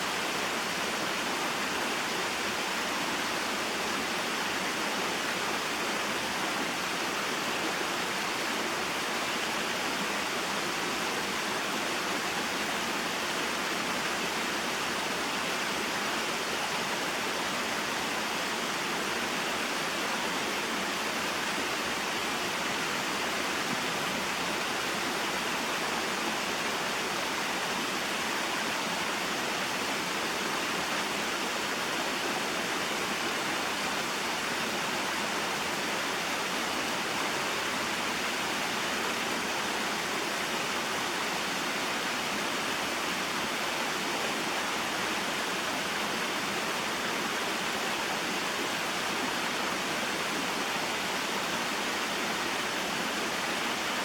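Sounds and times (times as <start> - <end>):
waterfall and stream flowing: 0.0 - 54.0.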